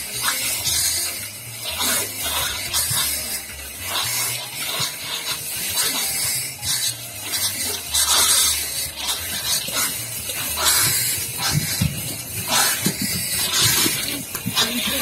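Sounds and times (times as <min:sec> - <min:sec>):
water running from tap: 0:00.0 - 0:15.0.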